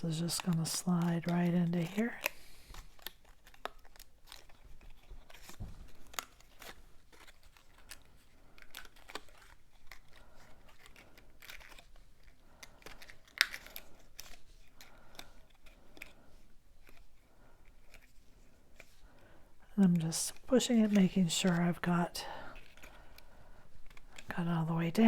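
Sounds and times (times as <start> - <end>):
cardstock rustling and scraping: 0.0 - 19.2, 19.8 - 25.0.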